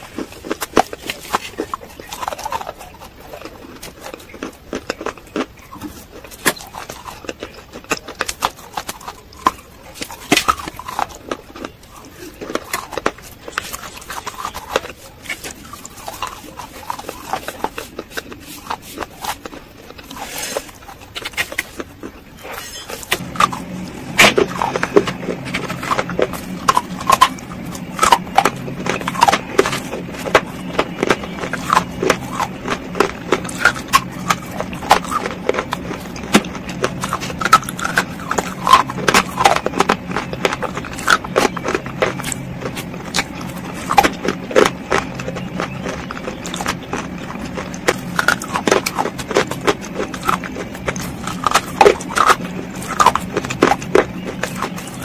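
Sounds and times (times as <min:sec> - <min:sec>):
crunching and chewing: 0:00.0 - 0:55.0
steady low hum: 0:00.0 - 0:55.0.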